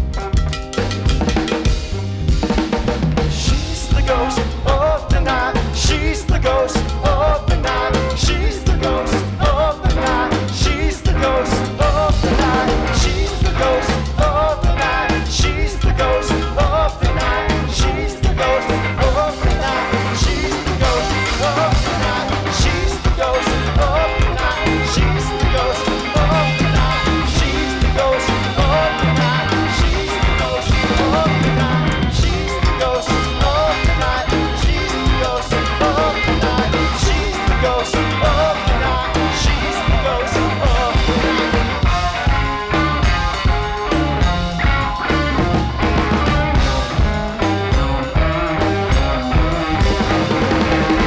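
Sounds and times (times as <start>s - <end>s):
live rock band playing: 0.0s - 51.0s
wavering lead melody: 0.0s - 51.0s.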